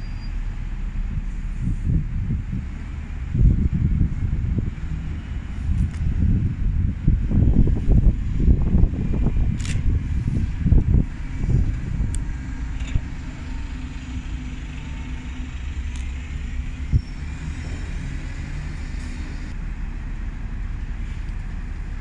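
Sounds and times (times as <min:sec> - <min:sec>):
bus engines rumbling: 0:00.0 - 0:22.0.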